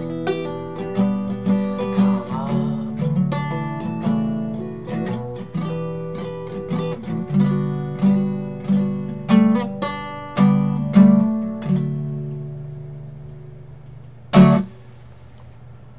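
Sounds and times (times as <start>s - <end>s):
guitar chords: 0.0s - 14.9s.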